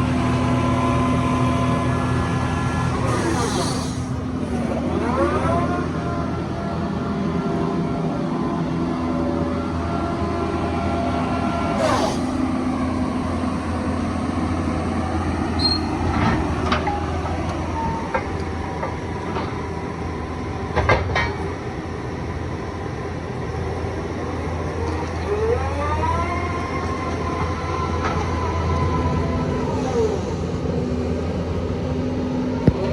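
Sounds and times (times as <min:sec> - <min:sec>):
excavator engine hum: 0:00.0 - 0:32.9.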